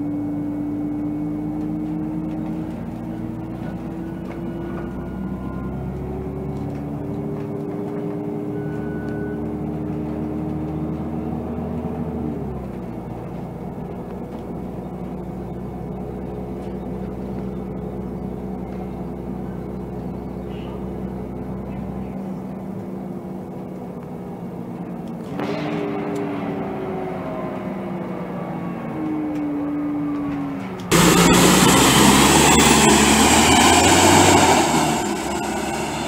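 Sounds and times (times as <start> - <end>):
bus engine from inside: 0.0 - 36.0.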